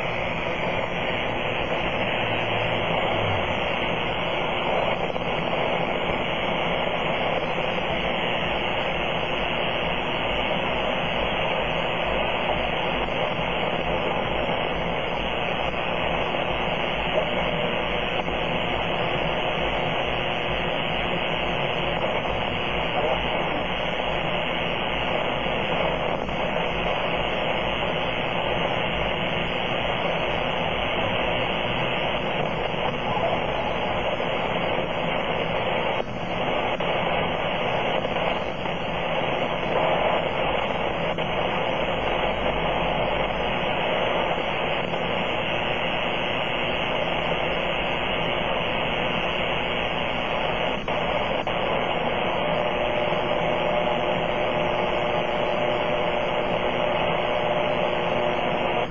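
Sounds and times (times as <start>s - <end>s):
radio powerline noise: 0.0s - 58.9s.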